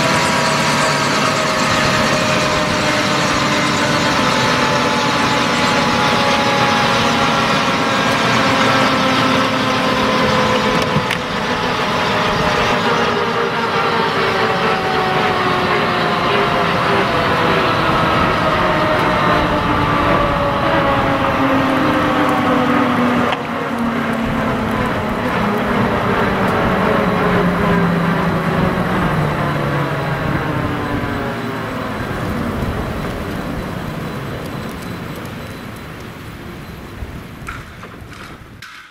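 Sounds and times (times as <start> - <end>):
rotor and engine roar: 0.0 - 36.6
helicopter turbine whine: 0.0 - 38.6.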